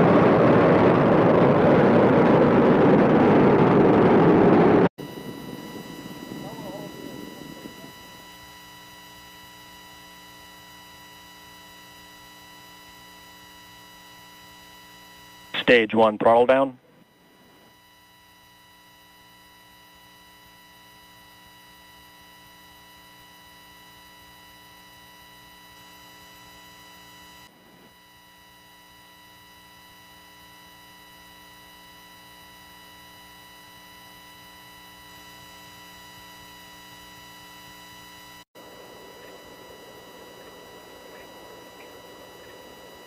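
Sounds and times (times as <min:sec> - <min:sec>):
faint electrical hum: 0:00.0 - 0:43.0.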